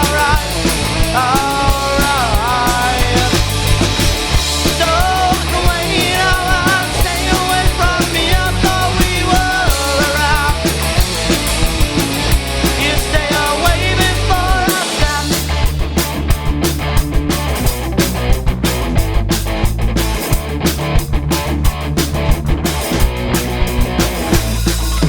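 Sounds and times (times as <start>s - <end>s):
heavy drum hits: 0.0s - 25.0s
punk rock band playing: 0.0s - 25.0s.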